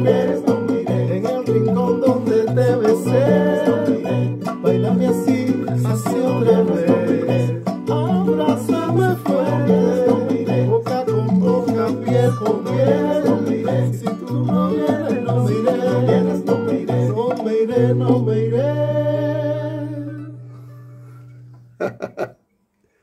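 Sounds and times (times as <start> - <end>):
person singing: 0.0 - 21.1
bass line: 0.0 - 22.0
plucked guitar: 0.0 - 22.4.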